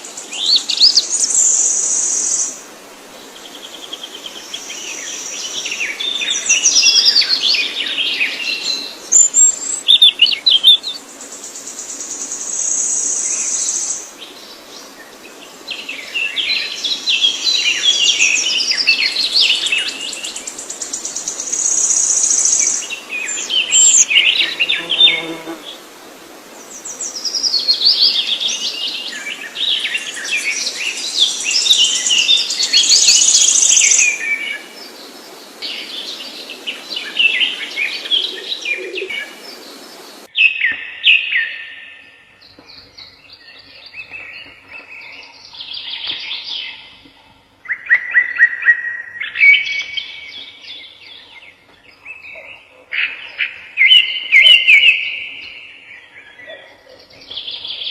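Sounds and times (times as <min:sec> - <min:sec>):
songbird chirps and trills: 0:00.0 - 0:57.9.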